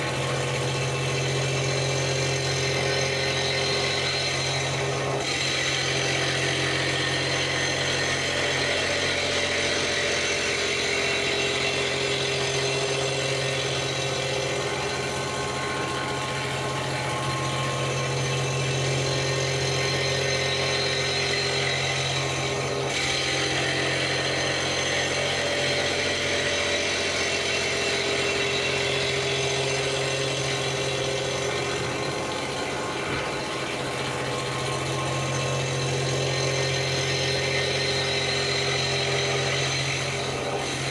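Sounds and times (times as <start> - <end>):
cutting noise: 0.0 - 40.9
milling machine hum: 0.0 - 40.9.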